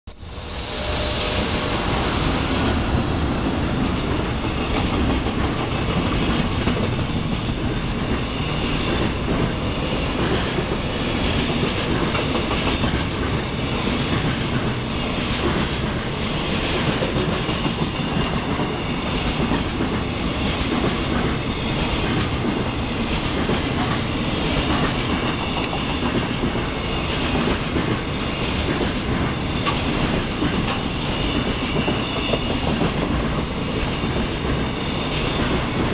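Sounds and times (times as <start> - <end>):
freight train wheels clattering: 1.1 - 35.9.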